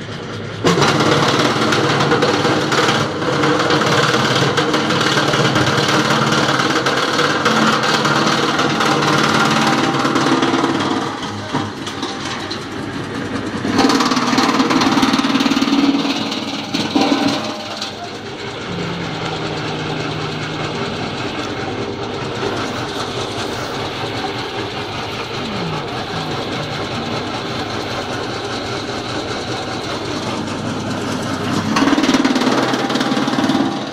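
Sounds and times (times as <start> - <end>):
wood chipper running: 0.0 - 33.9.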